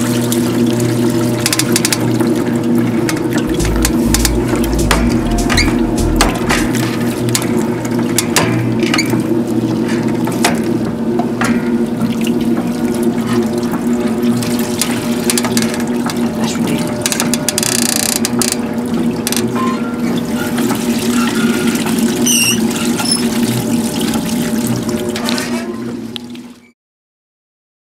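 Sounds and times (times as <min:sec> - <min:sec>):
water splashing and pouring: 0:00.0 - 0:17.3, 0:18.2 - 0:26.6
washing machine motor hum: 0:00.0 - 0:26.7.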